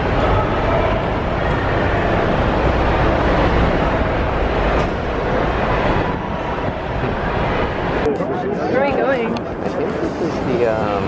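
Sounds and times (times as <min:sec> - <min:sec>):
traffic rumble and hiss: 0:00.0 - 0:11.0.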